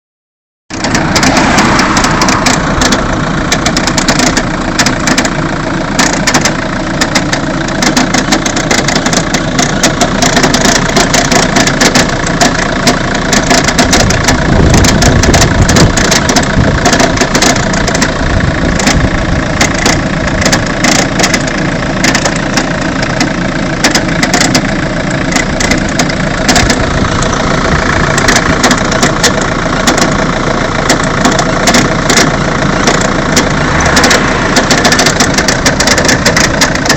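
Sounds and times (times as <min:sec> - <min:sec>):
diesel engine idling: 0:00.7 - 0:36.9
irregular crunching clicking: 0:00.8 - 0:05.4, 0:06.0 - 0:36.9.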